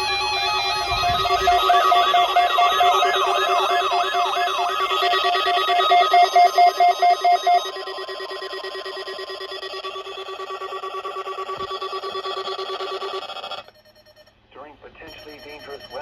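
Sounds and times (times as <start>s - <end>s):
steady electronic tones: 0.0s - 13.8s
rapid pulsing beep: 0.0s - 14.3s, 15.0s - 16.0s
siren-like chirp sweeping up: 0.0s - 14.3s, 15.1s - 16.0s.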